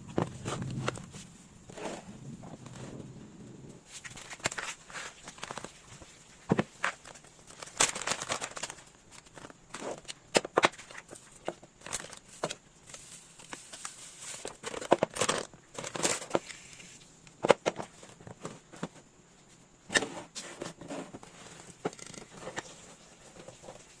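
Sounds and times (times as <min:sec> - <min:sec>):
rustling: 0:00.0 - 0:24.0.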